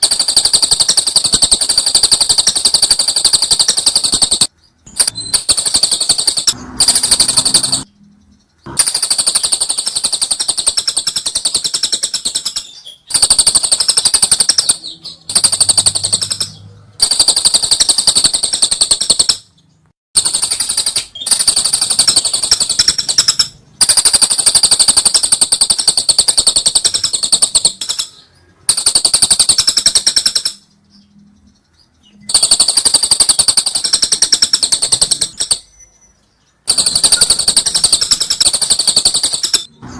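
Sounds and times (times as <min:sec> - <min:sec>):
bird rattling chatter: 0:00.0 - 0:07.9, 0:08.7 - 0:19.6, 0:20.2 - 0:30.8, 0:32.2 - 0:35.8, 0:36.6 - 0:39.7.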